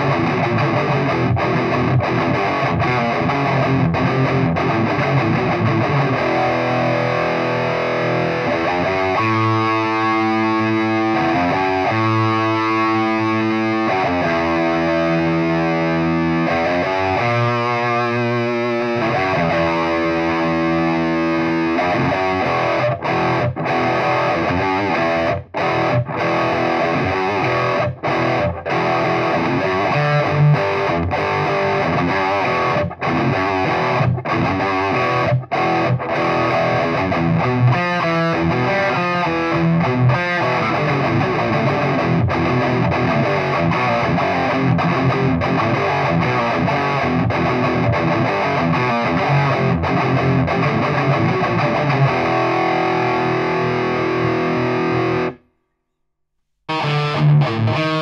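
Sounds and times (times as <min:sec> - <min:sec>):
distorted electric guitar: 0:00.0 - 0:55.5, 0:56.7 - 0:58.0.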